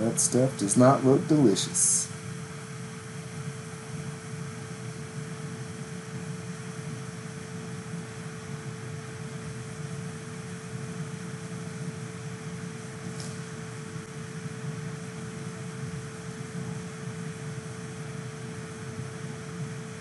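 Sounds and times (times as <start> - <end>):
constant mid-pitched tone: 0.0 - 19.8
mechanical hum and hiss: 0.0 - 20.0.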